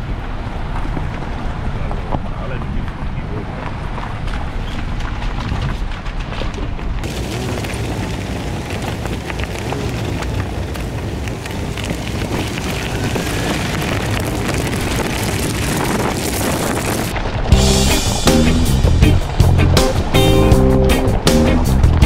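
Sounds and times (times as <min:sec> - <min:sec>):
low rumble: 0:00.0 - 0:22.0
tyres crunching on gravel: 0:00.1 - 0:18.0.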